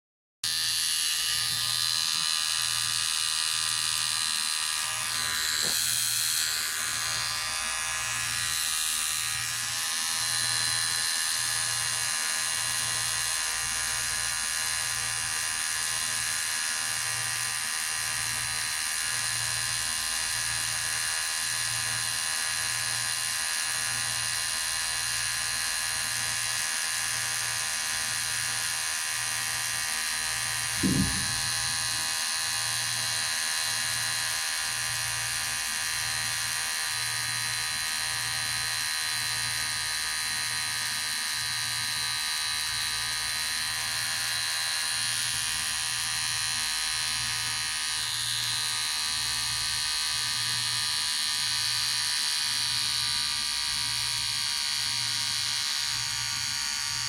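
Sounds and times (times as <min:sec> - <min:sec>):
electric hair clipper buzzing: 0:00.4 - 0:57.0.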